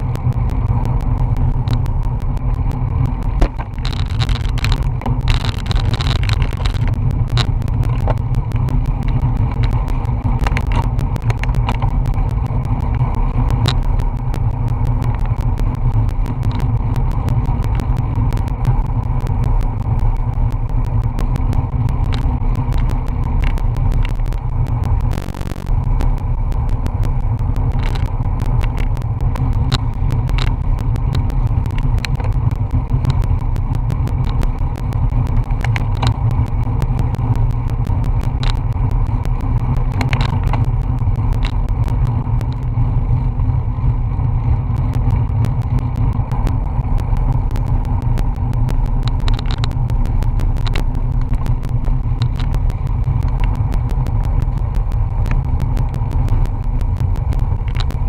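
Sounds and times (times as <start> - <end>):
wind roaring over microphone: 0.0 - 58.0.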